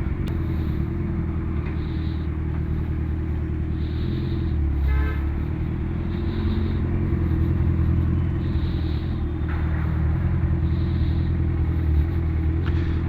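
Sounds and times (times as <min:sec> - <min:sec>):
motorcycle engine low rumble: 0:00.0 - 0:13.0.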